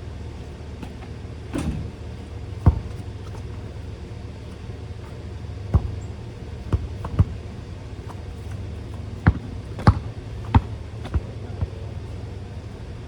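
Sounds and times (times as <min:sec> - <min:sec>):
basketball bouncing on hard court: 0:00.8 - 0:12.8.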